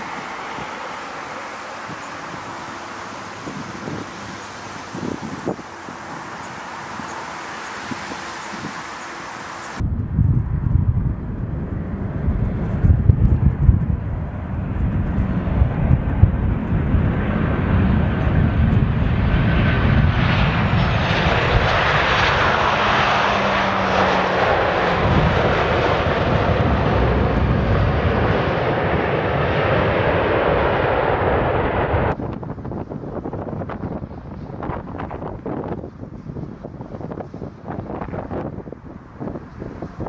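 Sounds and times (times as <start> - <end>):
jet engines roaring: 0.0 - 40.0
wind on microphone: 0.0 - 40.0.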